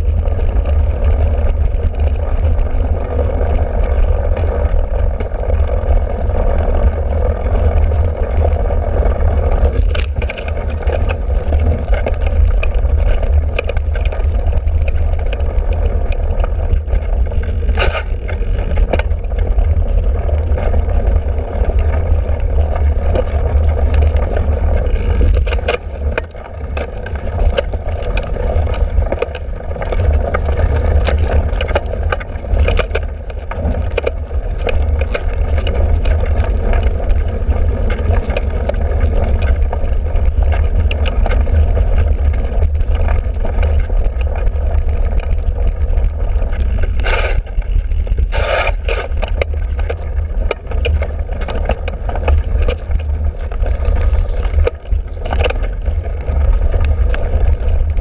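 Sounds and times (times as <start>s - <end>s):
bike rattling over bumps: 0.0s - 58.0s
bike tyres on grass and mud: 0.0s - 58.0s
wind buffeting microphone: 0.0s - 58.0s.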